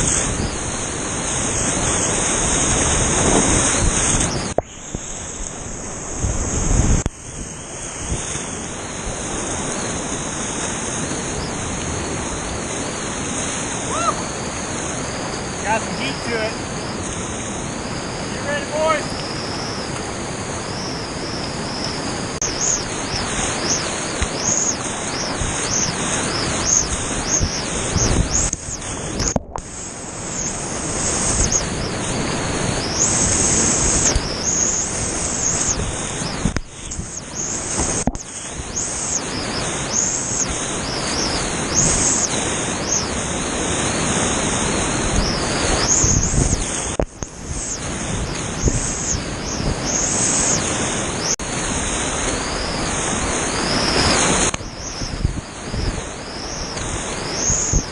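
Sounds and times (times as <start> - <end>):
whitewater rushing and splashing: 0.0 - 57.9.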